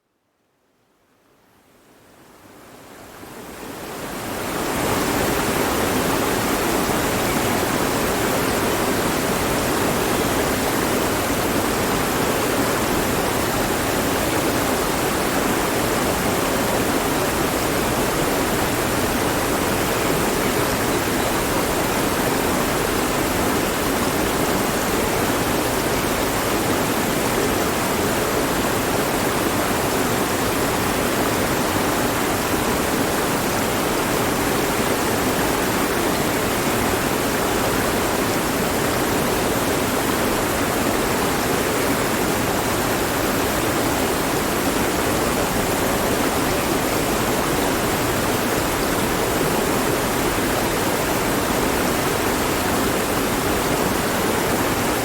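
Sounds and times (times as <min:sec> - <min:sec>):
stream rushing over rocks: 0:03.2 - 0:55.0.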